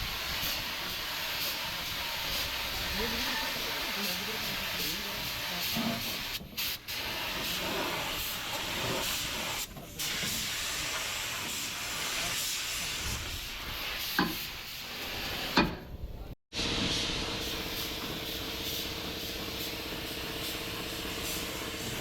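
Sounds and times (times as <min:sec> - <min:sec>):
compressed air hissing: 0:00.0 - 0:15.9, 0:16.6 - 0:22.0.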